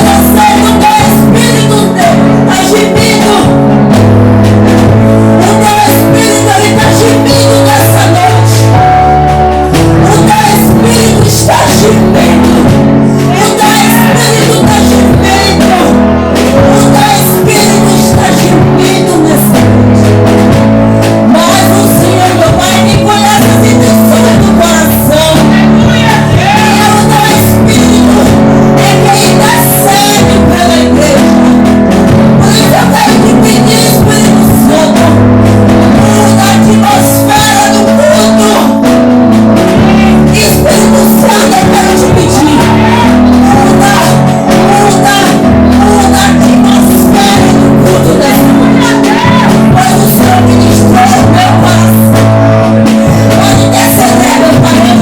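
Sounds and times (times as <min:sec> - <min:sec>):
band playing held chords: 0:00.0 - 0:55.0
person singing: 0:00.0 - 0:55.0.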